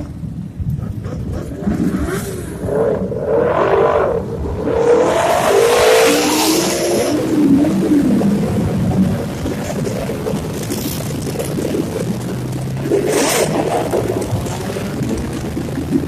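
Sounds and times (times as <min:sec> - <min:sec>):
motorbike engines revving: 0:00.0 - 0:16.0.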